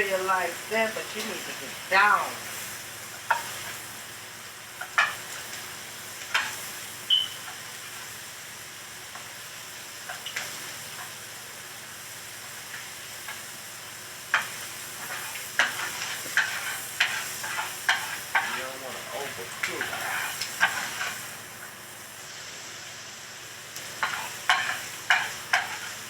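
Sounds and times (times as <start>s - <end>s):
eggs sizzling in a pan: 0.0s - 26.0s.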